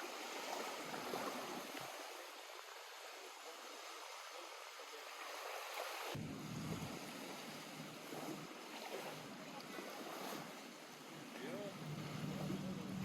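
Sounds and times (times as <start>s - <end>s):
water lapping at shore: 0.0s - 13.0s.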